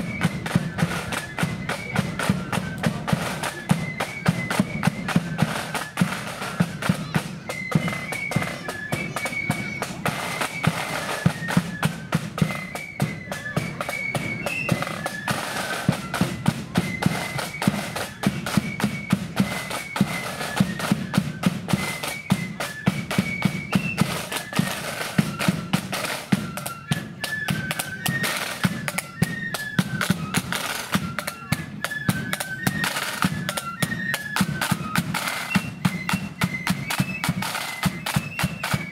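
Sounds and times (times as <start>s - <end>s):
flutes playing march melody: 0.0s - 38.9s.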